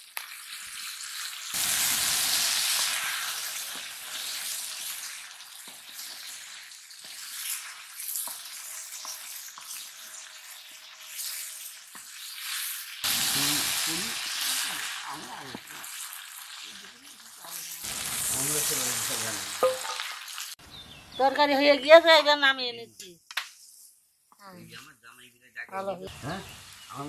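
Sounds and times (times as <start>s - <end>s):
food sizzling in hot oil: 0.0s - 22.6s, 26.1s - 27.0s.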